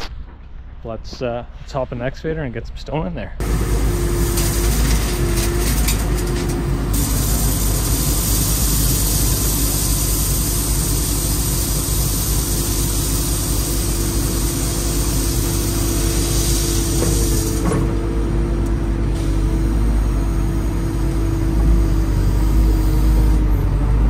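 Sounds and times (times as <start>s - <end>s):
excavator diesel engine running: 3.4s - 24.0s.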